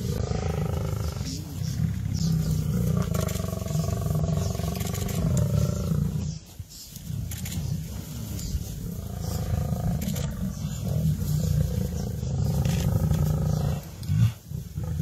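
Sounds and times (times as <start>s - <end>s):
lions growling: 0.0s - 15.0s.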